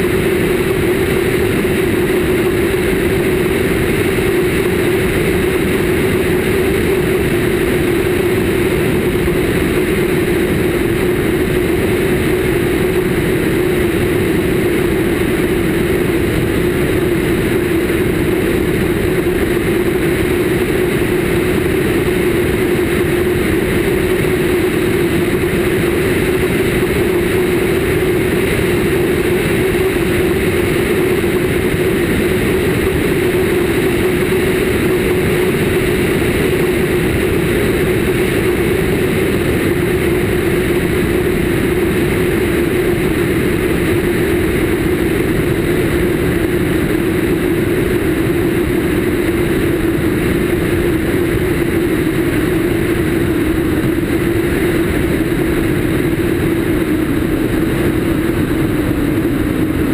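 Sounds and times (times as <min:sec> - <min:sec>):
light aircraft engine drone: 0:00.0 - 0:59.9
rushing wind: 0:00.0 - 0:59.9.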